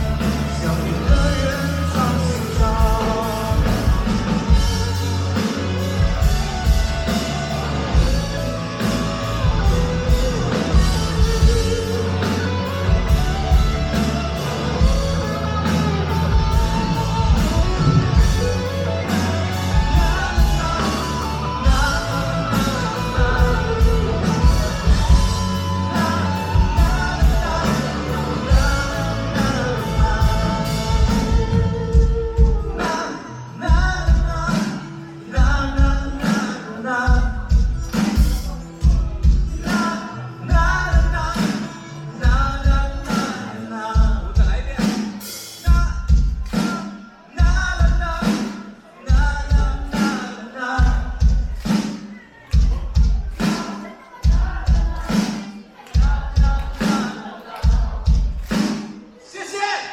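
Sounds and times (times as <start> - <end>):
live rock band playing: 0.0 - 59.6
person singing: 0.0 - 59.9.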